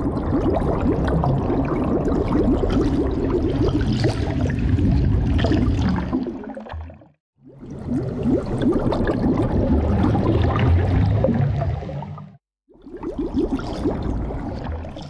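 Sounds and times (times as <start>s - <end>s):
underwater bubbling: 0.0s - 15.0s.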